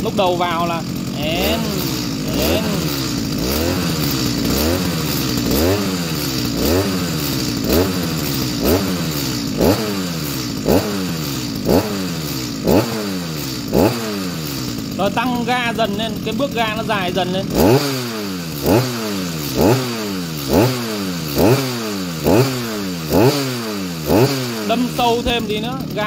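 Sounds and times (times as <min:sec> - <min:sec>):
chainsaw engine revving: 0:00.0 - 0:26.0.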